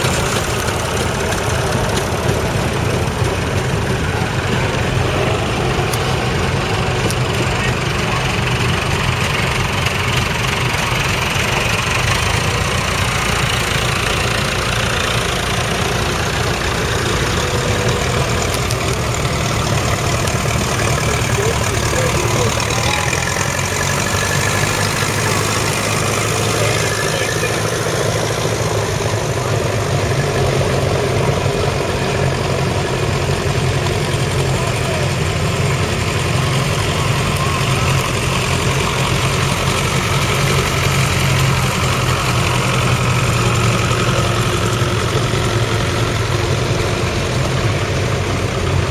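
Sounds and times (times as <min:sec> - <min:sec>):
tractor engines running: 0:00.0 - 0:48.9.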